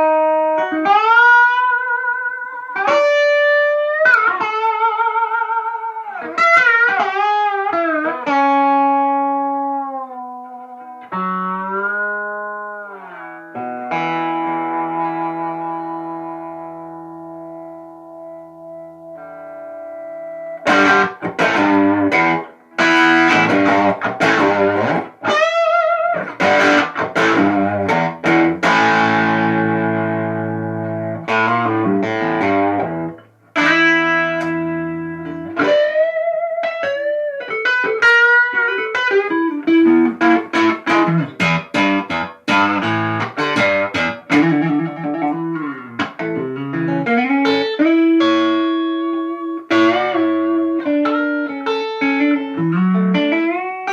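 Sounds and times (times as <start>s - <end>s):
electric guitar through amplifier: 0.0s - 53.9s.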